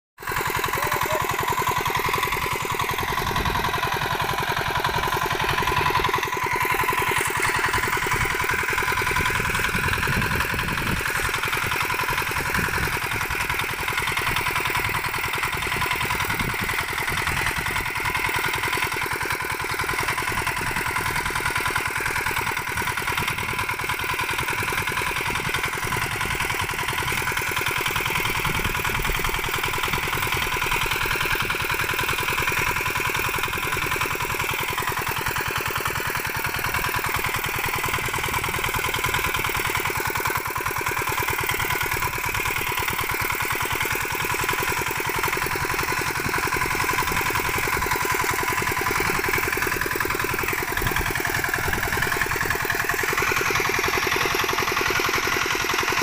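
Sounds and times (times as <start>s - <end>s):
small engine running: 0.2s - 56.0s.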